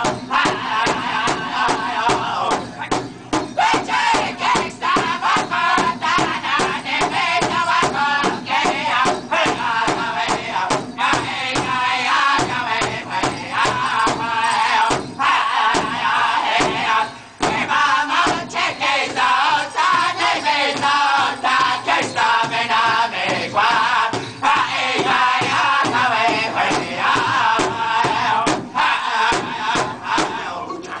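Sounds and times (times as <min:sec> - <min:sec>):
large drum beating: 0:00.0 - 0:19.2, 0:19.9 - 0:30.4
men singing in unison: 0:00.0 - 0:31.0.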